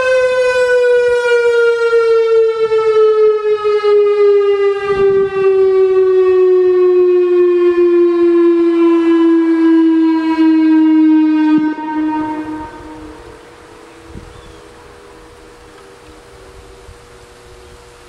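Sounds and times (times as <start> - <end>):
emergency warning siren: 0.0 - 18.0.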